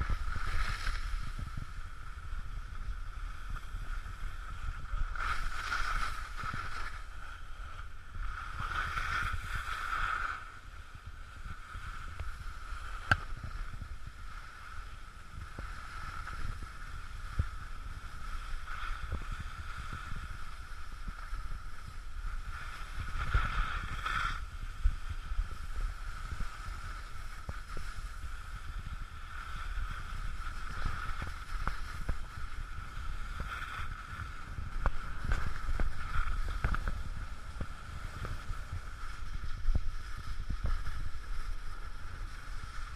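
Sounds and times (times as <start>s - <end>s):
skis scraping over snow: 0.0s - 42.9s
wind rumble on microphone: 0.0s - 42.9s.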